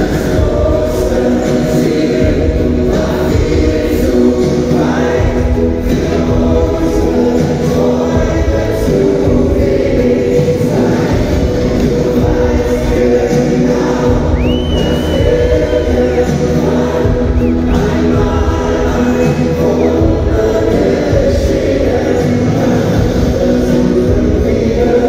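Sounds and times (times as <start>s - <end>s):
group singing over band: 0.0s - 25.0s
loud backing band: 0.0s - 25.0s.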